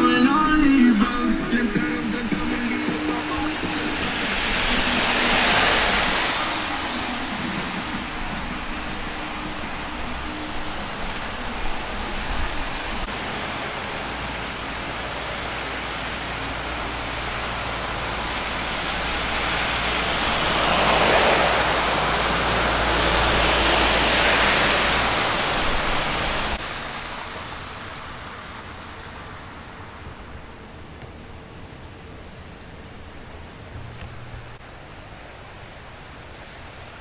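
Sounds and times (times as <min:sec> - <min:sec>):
car passing close: 0:00.0 - 0:30.8
tyres hissing on wet road: 0:00.0 - 0:37.0.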